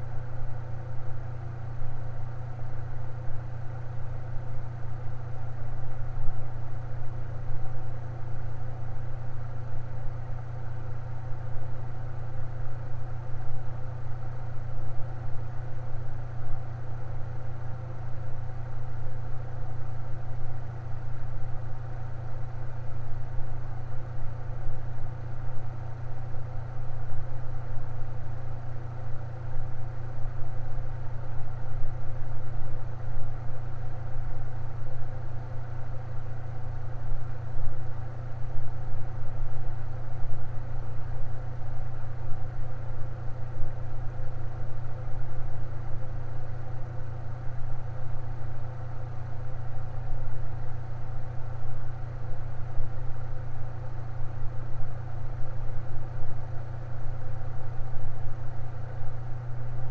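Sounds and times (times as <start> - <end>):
electric fan humming: 8.4 - 59.9.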